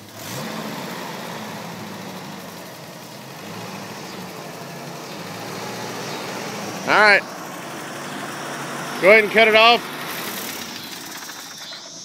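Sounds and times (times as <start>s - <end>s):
car engine revving lightly: 0.0s - 12.0s.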